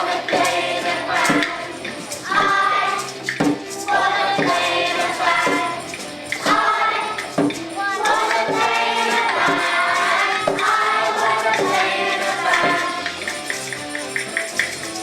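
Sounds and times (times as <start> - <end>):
group of voices singing: 0.0 - 13.4
instrumental accompaniment with beat: 0.0 - 15.0.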